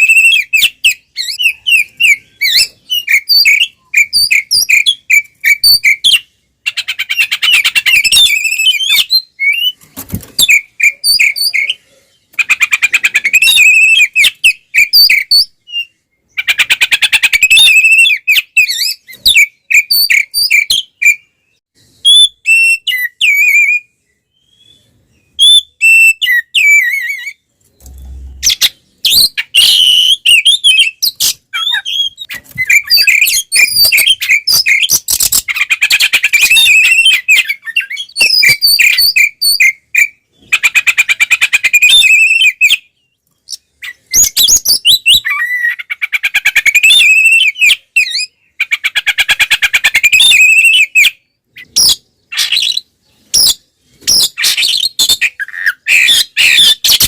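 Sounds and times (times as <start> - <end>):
songbird singing trills and whistles: 0.0 - 57.0.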